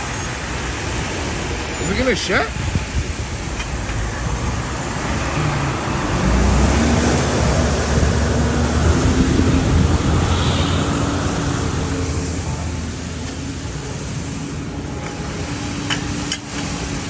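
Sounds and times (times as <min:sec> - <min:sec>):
water geyser spraying and splashing: 0:00.0 - 0:17.0.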